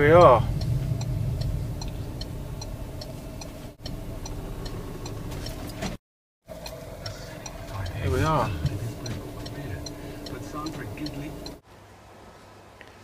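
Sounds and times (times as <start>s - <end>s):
car engine hum: 0.0s - 11.6s
turn signal ticking: 0.0s - 11.6s
road noise inside car: 0.0s - 12.3s.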